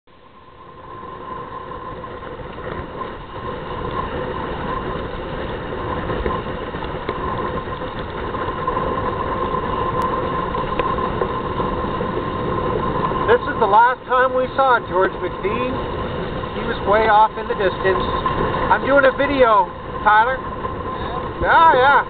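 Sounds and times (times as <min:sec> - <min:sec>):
water rushing past hulls: 0:00.1 - 0:22.0
wind on microphone: 0:00.2 - 0:22.0.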